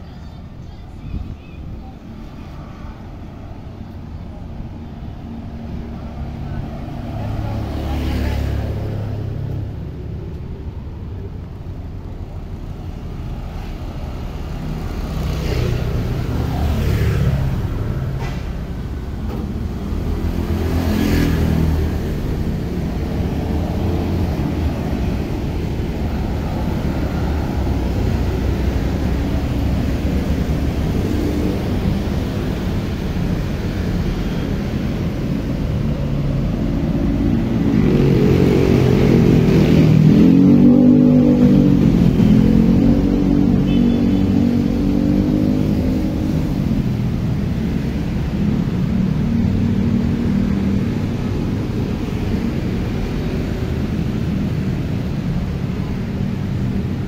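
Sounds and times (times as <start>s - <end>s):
scooters and cars passing: 0.0s - 57.0s.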